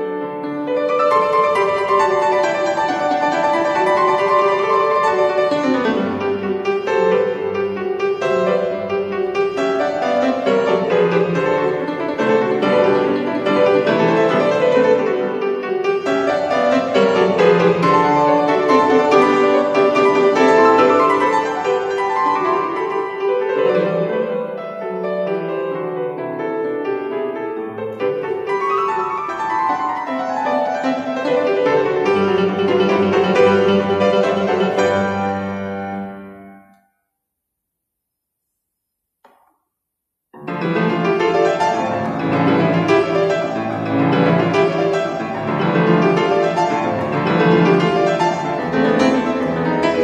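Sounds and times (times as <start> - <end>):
grand piano playing classical music: 0.0 - 36.9, 40.4 - 50.0.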